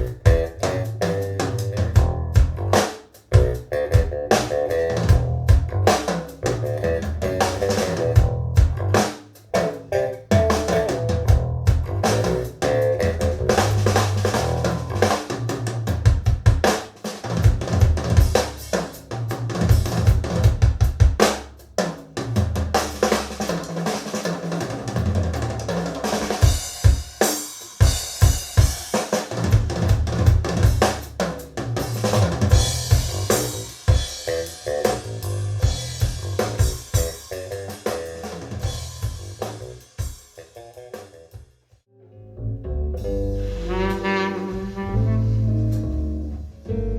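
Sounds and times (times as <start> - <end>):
drum-led music with deep bass: 0.0 - 27.2, 27.8 - 41.2.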